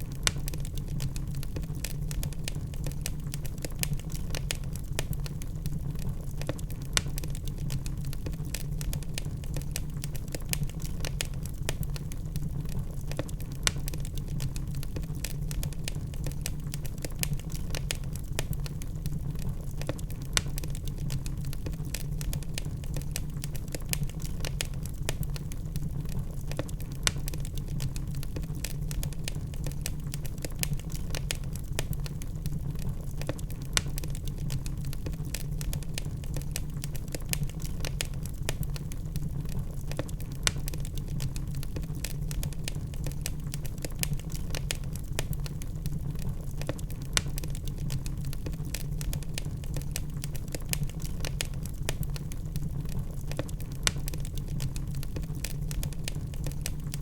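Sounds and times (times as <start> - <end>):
burning logs crackling and popping: 0.0 - 57.0
low rumble of flames: 0.0 - 57.0.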